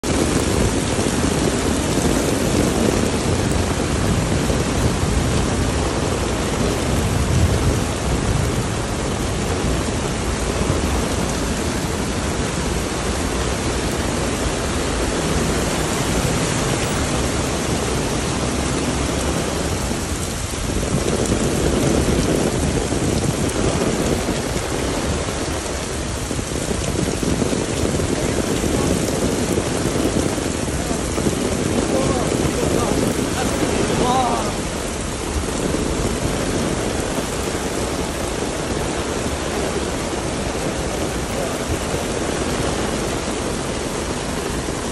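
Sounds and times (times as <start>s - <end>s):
heavy rain on pavement: 0.0s - 44.9s.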